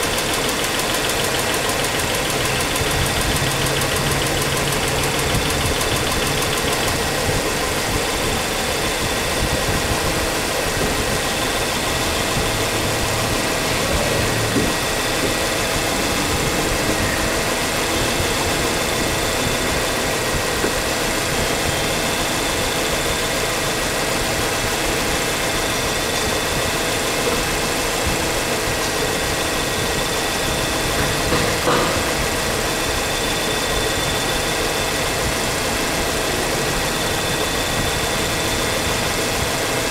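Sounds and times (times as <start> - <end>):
engine knock: 0.0 - 39.9
truck engine idling: 0.0 - 39.9.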